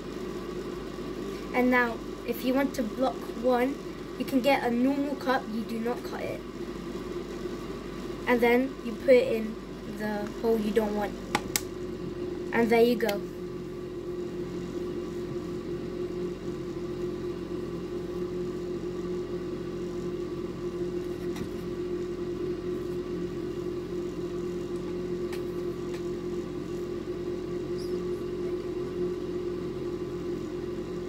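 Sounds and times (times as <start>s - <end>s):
electric fan humming: 0.0s - 31.0s.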